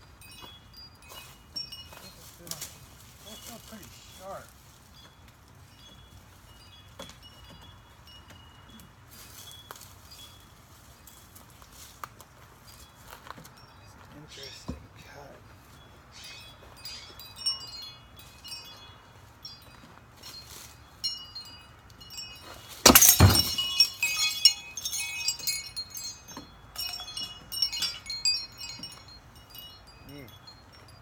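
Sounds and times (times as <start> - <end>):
wind chime tinkling: 0.0 - 11.6, 12.6 - 31.0.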